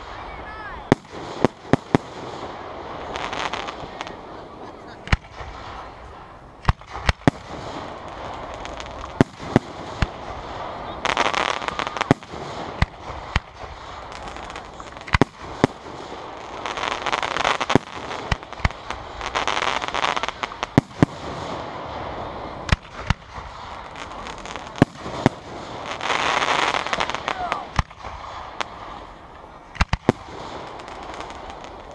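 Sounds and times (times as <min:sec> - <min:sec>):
fireworks booming and cracking: 0:00.0 - 0:31.9.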